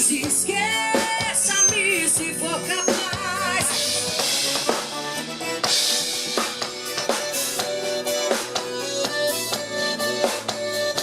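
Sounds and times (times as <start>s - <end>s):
drum kit beat: 0.0s - 11.0s
live band instrumental: 0.0s - 11.0s.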